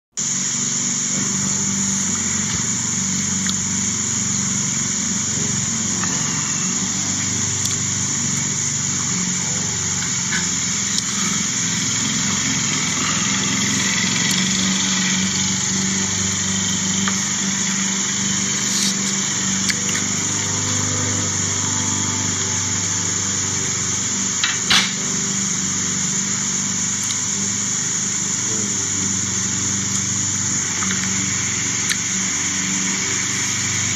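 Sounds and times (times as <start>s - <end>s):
high unbroken buzz: 0.1s - 33.9s
distant motor humming: 0.2s - 33.9s.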